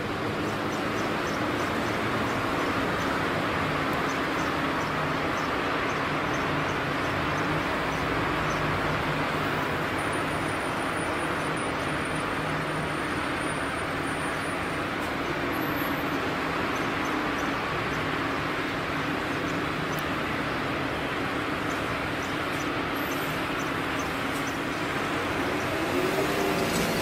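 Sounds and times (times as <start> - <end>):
distant engines droning: 0.0 - 27.0.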